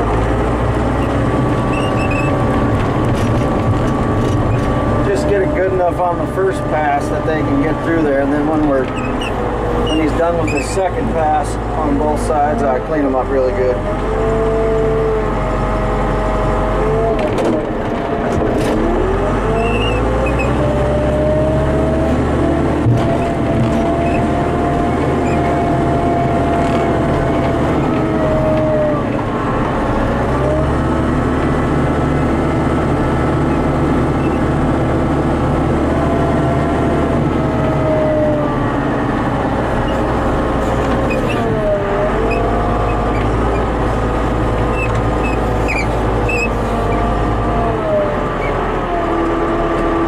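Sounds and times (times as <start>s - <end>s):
loader diesel engine running: 0.0s - 50.0s.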